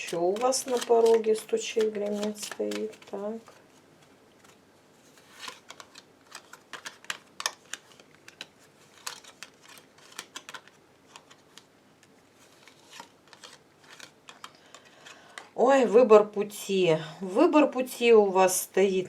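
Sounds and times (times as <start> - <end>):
cards being shuffled: 0.0 - 15.5.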